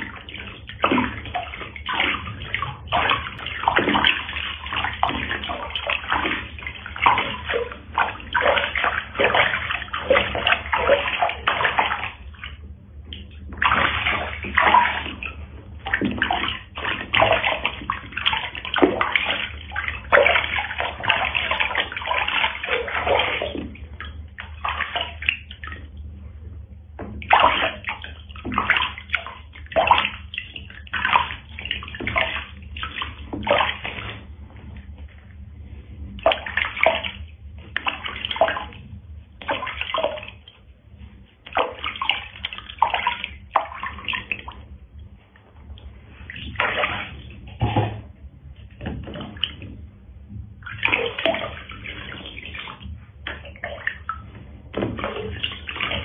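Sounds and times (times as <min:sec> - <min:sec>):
water trickling: 0:00.0 - 0:26.2, 0:27.0 - 0:35.4, 0:36.2 - 0:56.0
water splashing in plastic tub: 0:00.0 - 0:56.0.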